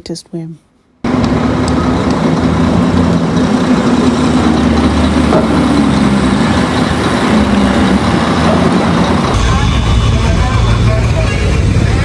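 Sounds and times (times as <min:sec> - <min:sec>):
large engine running: 0:01.1 - 0:12.0.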